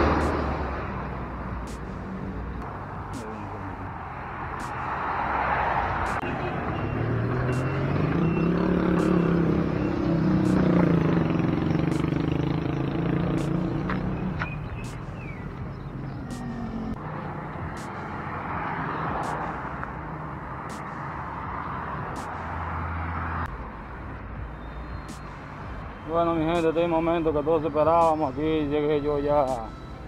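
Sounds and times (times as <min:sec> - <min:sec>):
vehicle engine passing: 0:00.0 - 0:26.7
road and outdoor noise: 0:00.0 - 0:30.0.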